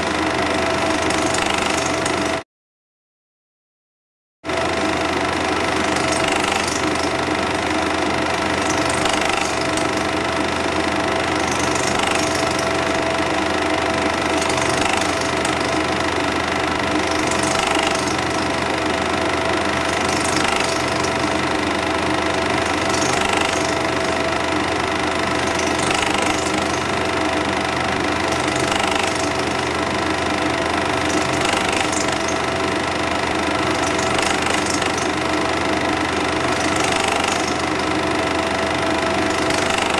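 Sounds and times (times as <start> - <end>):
film projector whirring and rattling: 0.0 - 2.4, 4.5 - 39.9
projector hum: 6.8 - 39.9.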